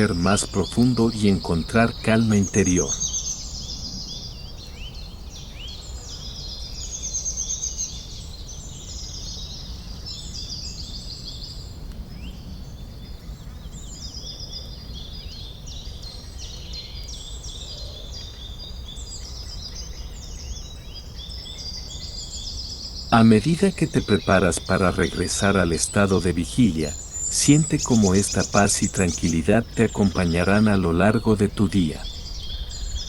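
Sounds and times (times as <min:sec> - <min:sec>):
songbirds chirping and trilling: 0:00.0 - 0:33.0
steady low background noise: 0:00.0 - 0:33.0.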